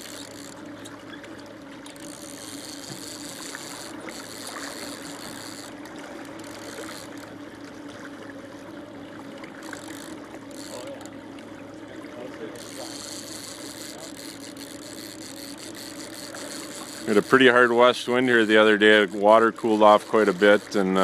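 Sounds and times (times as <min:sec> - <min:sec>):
boat engine humming: 0:00.0 - 0:21.0
water washing along hull: 0:00.0 - 0:21.0.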